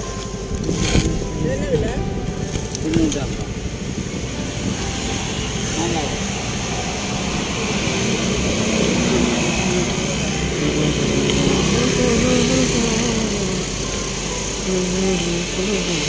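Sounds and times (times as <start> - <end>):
motorcycles passing: 0.0 - 16.0
road traffic: 0.0 - 16.0.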